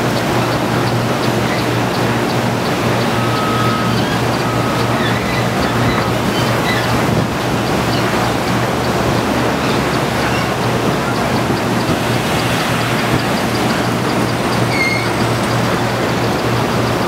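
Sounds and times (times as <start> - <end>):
mill machinery hum: 0.0 - 17.0.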